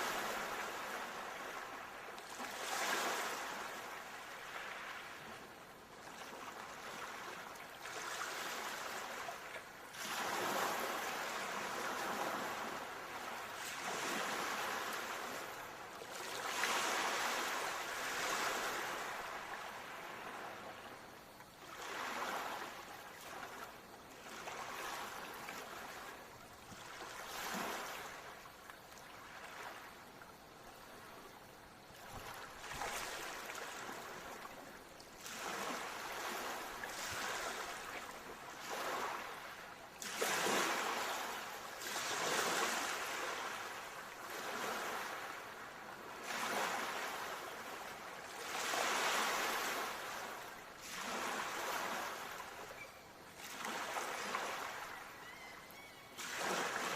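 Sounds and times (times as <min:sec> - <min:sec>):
ocean waves breaking on shore: 0:00.0 - 0:56.9.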